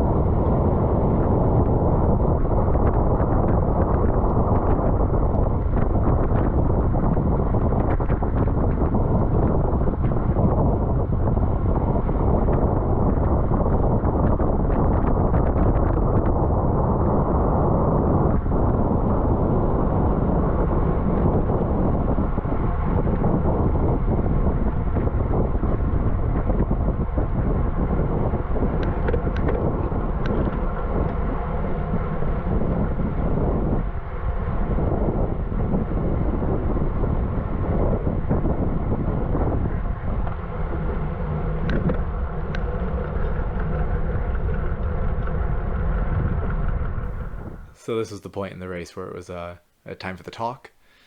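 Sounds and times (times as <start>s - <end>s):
wind rush over microphone: 0.0s - 48.1s.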